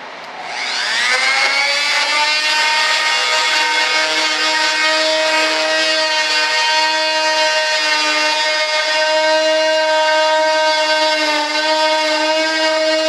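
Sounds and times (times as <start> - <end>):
rotary tool whining: 0.4 - 13.0.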